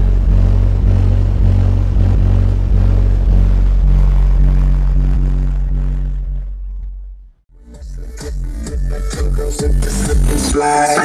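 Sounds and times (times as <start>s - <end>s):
loud bass music from subwoofers: 0.0s - 11.0s.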